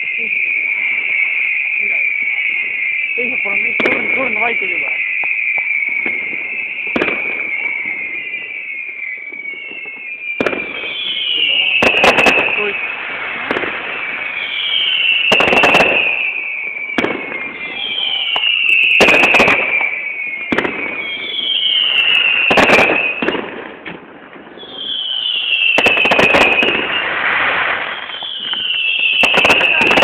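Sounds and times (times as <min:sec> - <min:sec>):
falling firework whistle: 0:00.0 - 0:30.0.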